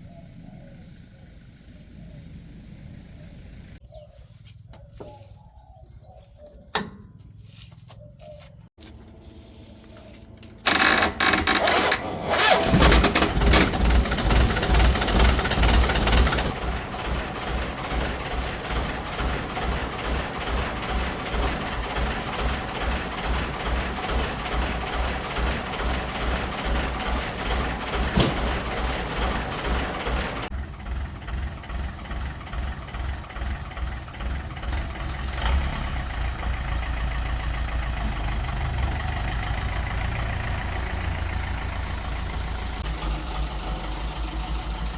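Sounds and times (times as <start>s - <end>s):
car engine cranking and idling: 0.0s - 4.0s, 10.0s - 44.9s.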